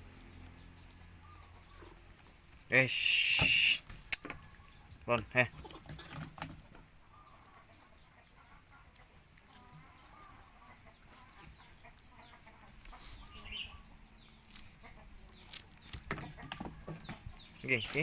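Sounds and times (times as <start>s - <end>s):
chickens clucking: 0.1s - 18.0s.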